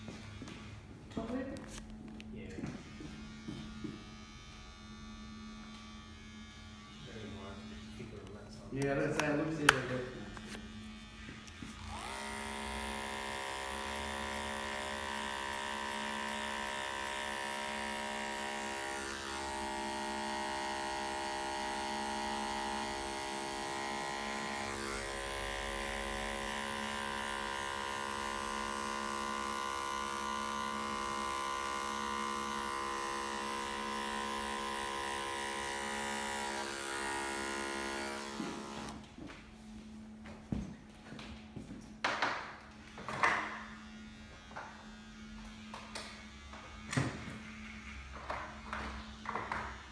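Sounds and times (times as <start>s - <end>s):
hair clipper buzzing: 1.5s - 39.0s, 43.8s - 49.9s.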